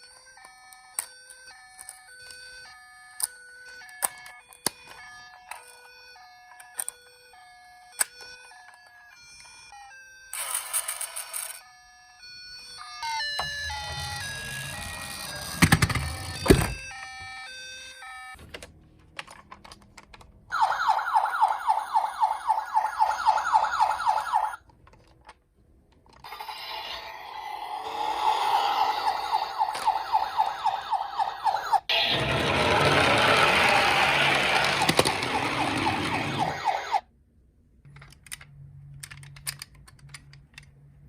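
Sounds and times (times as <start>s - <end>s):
toy siren warbling: 0.0s - 18.4s, 20.5s - 24.6s, 26.2s - 37.1s.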